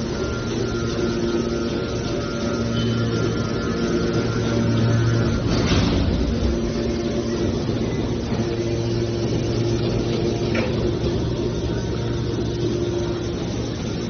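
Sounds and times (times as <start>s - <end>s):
baler mechanical hum: 0.0s - 14.0s.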